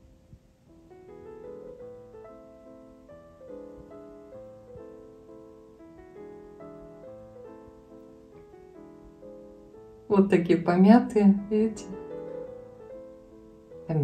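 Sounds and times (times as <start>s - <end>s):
quiet piano music: 0.0s - 14.0s.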